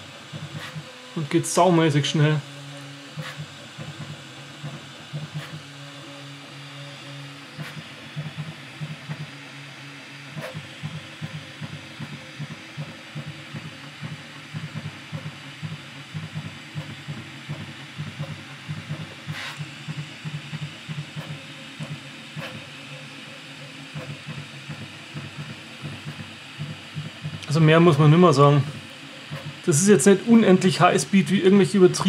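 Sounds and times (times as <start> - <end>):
cooling fans hissing: 0.0 - 32.0.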